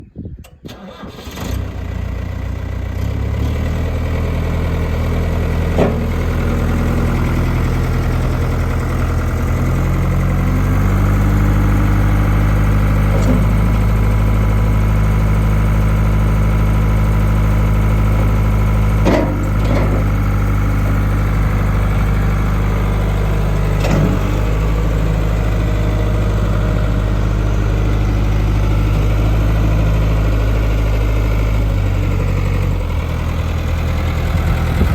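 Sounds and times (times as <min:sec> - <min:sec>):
tractor diesel engine: 0:00.4 - 0:34.9.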